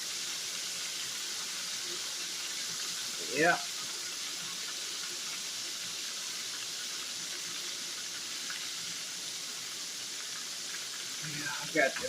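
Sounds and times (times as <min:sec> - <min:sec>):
liver frying in hot oil: 0:00.0 - 0:12.0.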